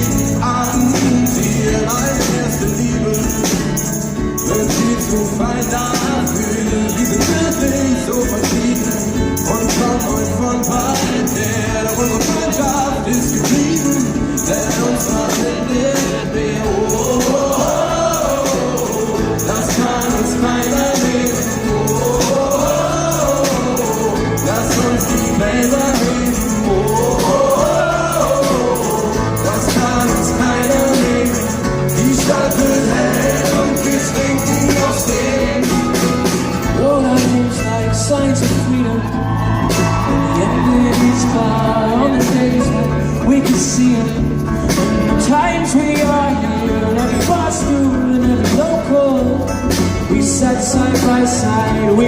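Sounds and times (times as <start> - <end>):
drum beat: 0.0 - 48.9
live pop rock band: 0.0 - 52.0
people singing: 0.0 - 52.0.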